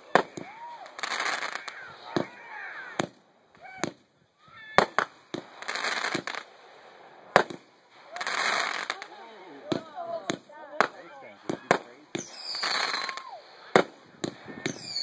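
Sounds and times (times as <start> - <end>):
firework shells bursting: 0.0 - 4.1, 4.7 - 15.0
firework shots launching hissing: 0.0 - 4.1, 4.7 - 15.0
firework crackling: 0.0 - 15.0.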